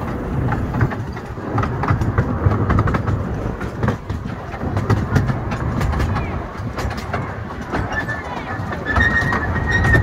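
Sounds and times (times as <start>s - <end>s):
miniature train rumbling on track: 0.0s - 10.0s
wheels clicking over rail joints: 0.0s - 10.0s.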